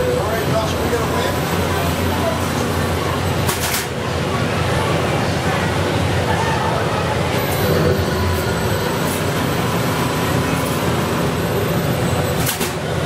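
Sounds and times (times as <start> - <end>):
ride vehicle rumbling on track: 0.0 - 13.0.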